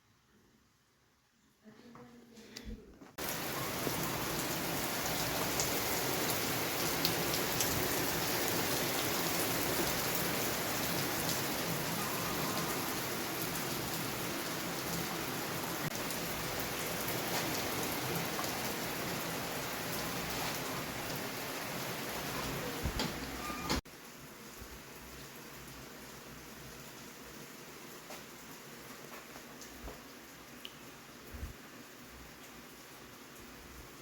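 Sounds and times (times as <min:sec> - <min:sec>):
heavy rain downpour: 0:03.2 - 0:34.0.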